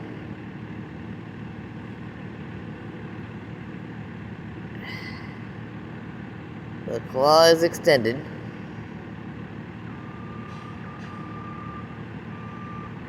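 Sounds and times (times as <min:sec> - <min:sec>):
distant truck engine rumble: 0:00.0 - 0:13.0.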